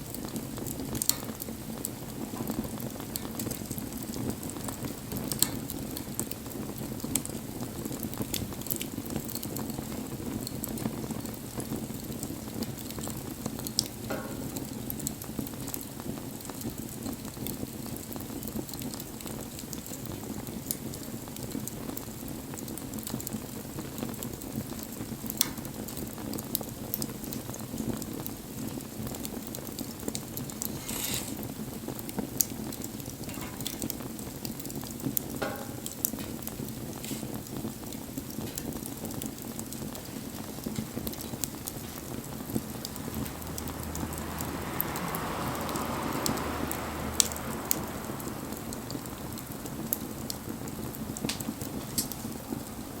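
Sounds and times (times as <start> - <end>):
bonfire flames rushing: 0.0 - 53.0
burning wood crackling and popping: 0.0 - 53.0.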